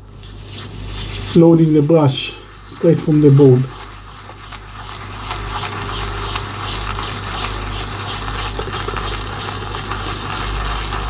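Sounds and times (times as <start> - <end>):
shaving brush swishing on soap: 0.1 - 11.0.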